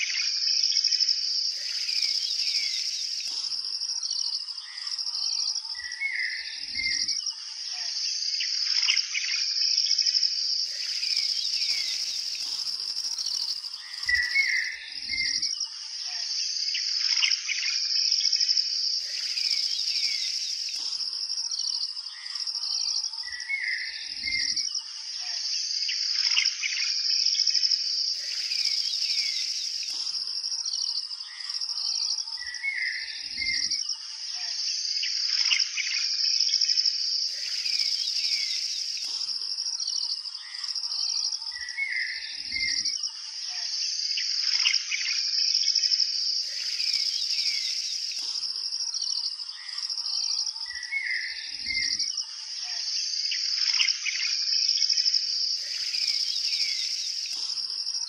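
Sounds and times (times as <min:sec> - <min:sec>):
insects trilling: 0:00.0 - 0:58.0
birds chirping and calling: 0:01.4 - 0:18.3, 0:18.9 - 0:26.9, 0:28.0 - 0:36.1, 0:37.3 - 0:45.3, 0:46.4 - 0:54.4, 0:55.6 - 0:58.0.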